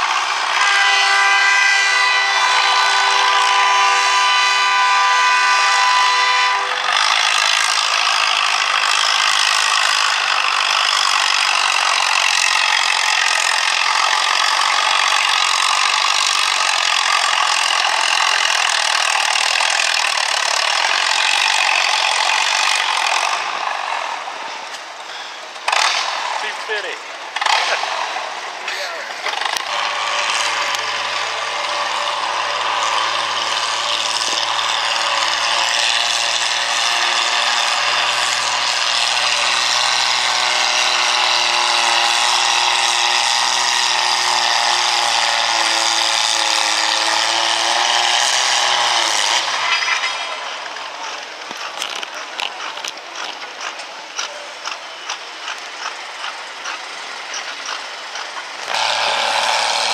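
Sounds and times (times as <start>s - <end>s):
tractor engine running hard: 0.0s - 59.9s.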